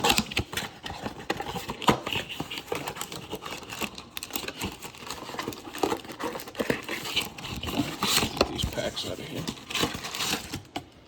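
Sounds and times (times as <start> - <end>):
packaging crinkling and tearing: 0.0 - 10.9.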